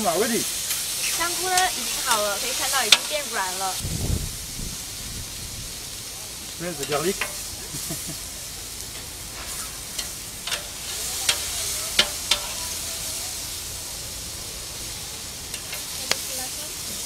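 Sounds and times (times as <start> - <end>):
vegetables sizzling on hot plate: 0.0 - 17.0.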